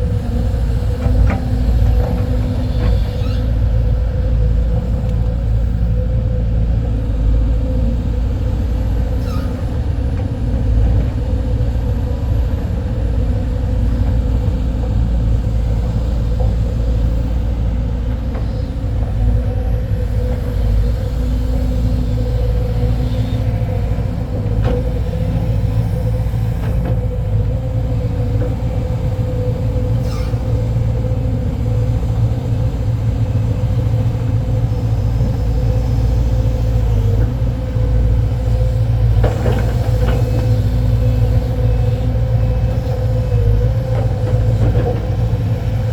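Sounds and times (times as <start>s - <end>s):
excavator engine rumble: 0.0s - 45.9s.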